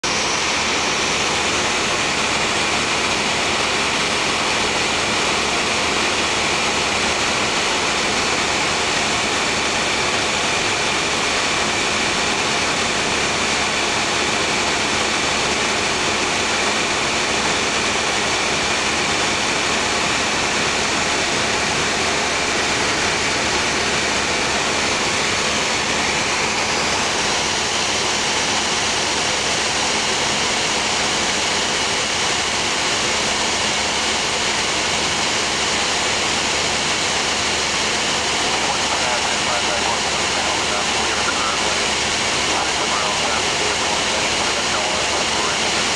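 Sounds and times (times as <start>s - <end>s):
airplane cabin engine drone: 0.0s - 45.9s.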